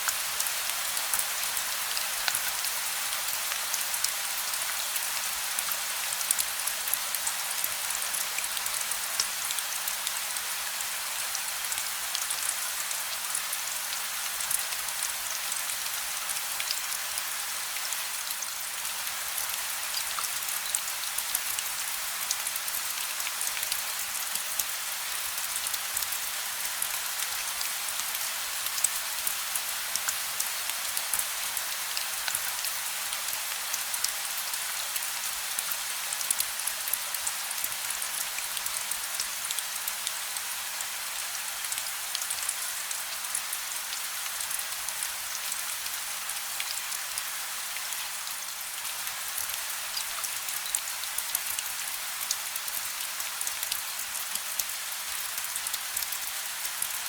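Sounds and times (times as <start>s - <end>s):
rain hiss: 0.0s - 57.0s
raindrops ticking on surface: 0.1s - 57.0s.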